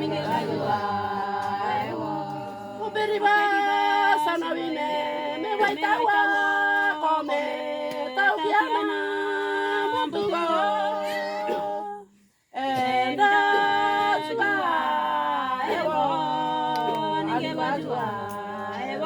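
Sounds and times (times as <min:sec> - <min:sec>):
women singing in harmony: 0:00.0 - 0:19.0.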